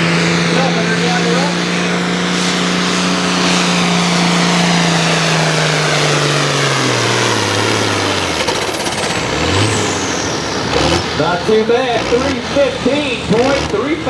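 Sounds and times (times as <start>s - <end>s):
diesel tractor engine under load: 0.0s - 14.0s.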